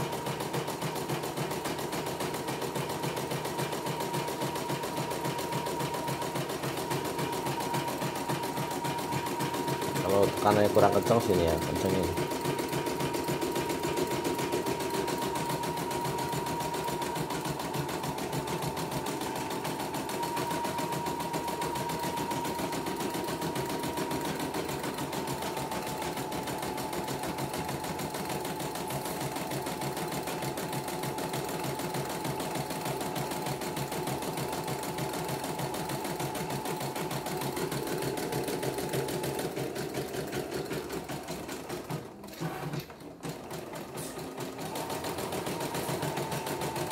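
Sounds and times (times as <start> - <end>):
embroidery machine needle stitching: 0.0 - 46.9.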